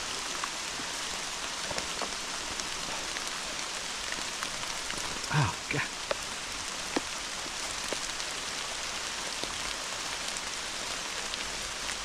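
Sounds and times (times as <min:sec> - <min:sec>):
heavy rain hissing: 0:00.0 - 0:12.0
raindrop ticks: 0:00.1 - 0:12.0.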